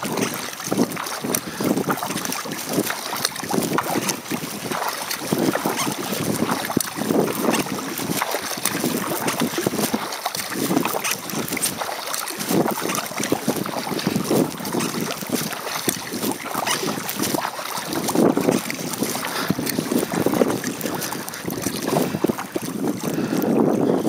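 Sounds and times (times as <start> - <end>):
water dripping: 0.0 - 23.8
paddle splashing in water: 0.0 - 24.0
wind buffeting microphone: 0.0 - 24.0.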